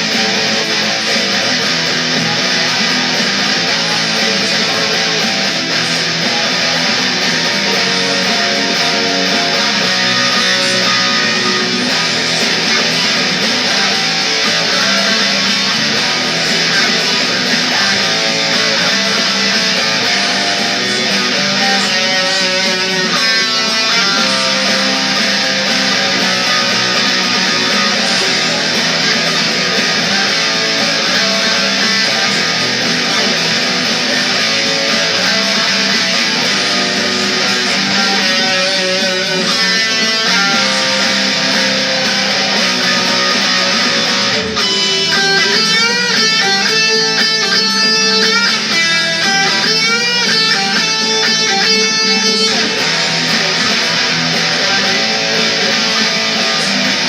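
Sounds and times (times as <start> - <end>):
guitar strumming rock chords: 0.0 - 57.0.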